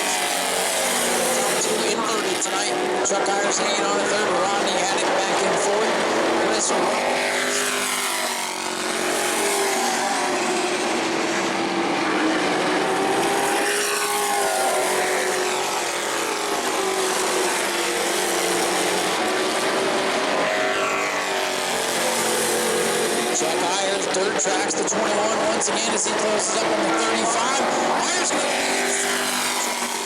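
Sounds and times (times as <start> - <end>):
race truck engines passing: 0.0 - 30.0.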